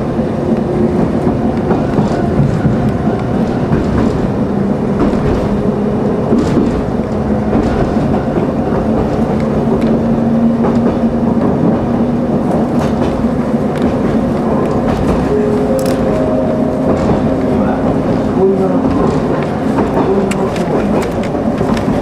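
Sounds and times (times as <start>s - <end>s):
electric railcar running noise: 0.0s - 22.0s
wheels clacking over rail joints: 0.0s - 22.0s.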